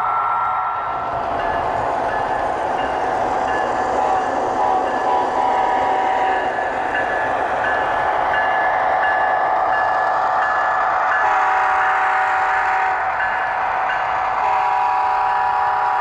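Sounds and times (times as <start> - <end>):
model locomotive engine and rolling: 0.0 - 16.0.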